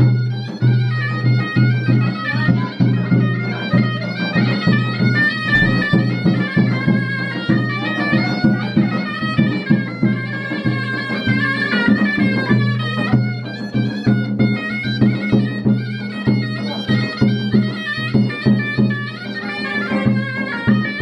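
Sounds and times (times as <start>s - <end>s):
drum beats: 0.0s - 21.0s
reed shawm melody: 0.0s - 21.0s.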